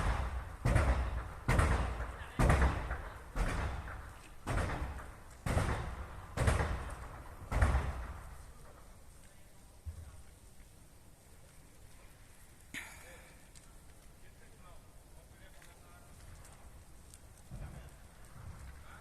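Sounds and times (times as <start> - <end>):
explosions in a fire: 0.0 - 19.0.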